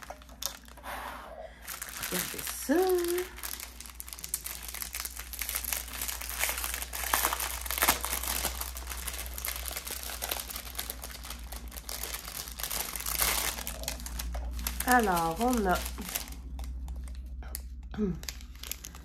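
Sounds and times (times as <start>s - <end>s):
plastic packaging crinkling: 0.0s - 0.9s, 1.6s - 19.0s.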